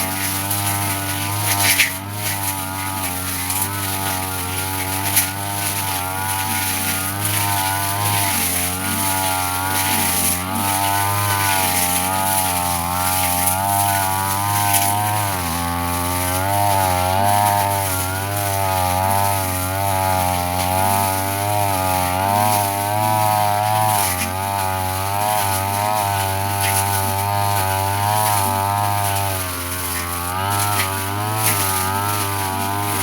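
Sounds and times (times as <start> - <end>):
brush cutter cutting grass: 0.0 - 33.0.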